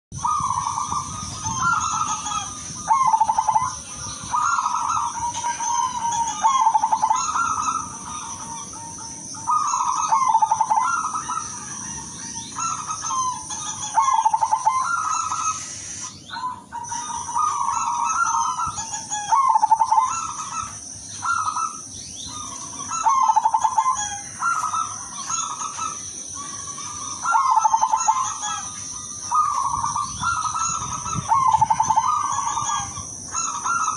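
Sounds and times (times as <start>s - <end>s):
steady high-pitched hum: 0.1s - 33.9s
dove cooing: 0.2s - 33.9s.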